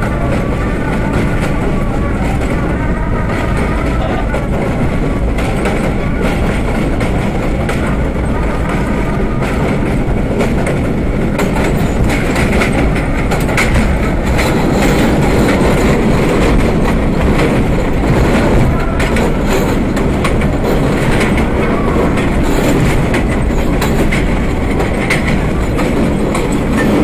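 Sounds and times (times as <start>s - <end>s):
subway car rumbling: 0.0s - 27.0s
wheels clicking over rail joints: 0.0s - 27.0s.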